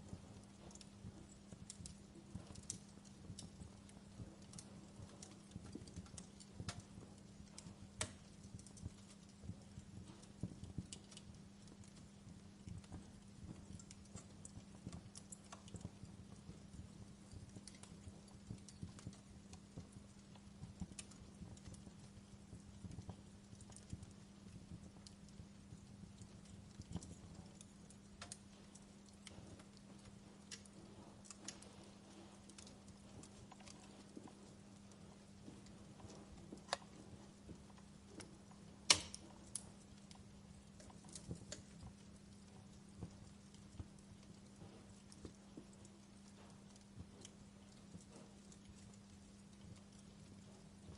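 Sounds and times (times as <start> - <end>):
steady low hum: 0.0 - 50.9
wood fire crackling: 0.0 - 50.9.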